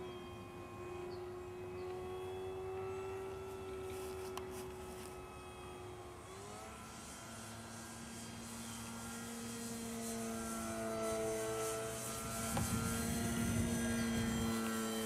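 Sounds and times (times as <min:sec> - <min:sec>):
model plane propeller droning: 0:00.0 - 0:15.0.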